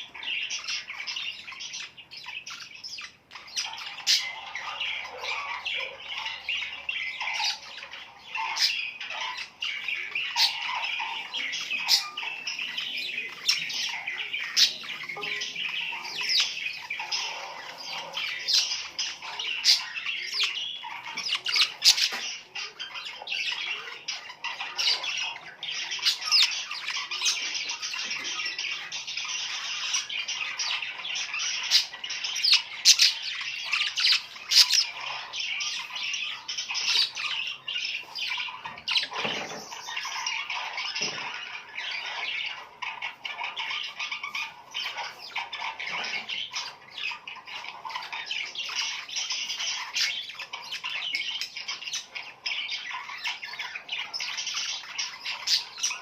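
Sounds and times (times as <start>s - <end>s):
flock of birds chirping: 0.0s - 56.0s.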